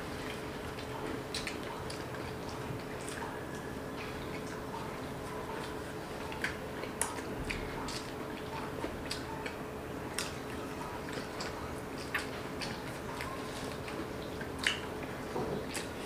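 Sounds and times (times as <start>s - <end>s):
people chewing bread: 0.0s - 16.0s.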